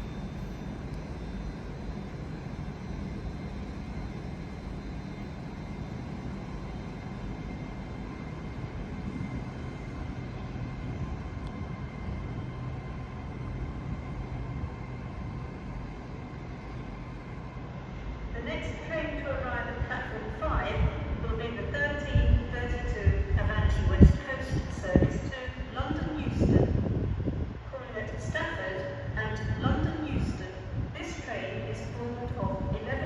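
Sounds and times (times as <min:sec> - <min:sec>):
droning hum: 0:00.0 - 0:33.0
train rumbling: 0:00.0 - 0:33.0.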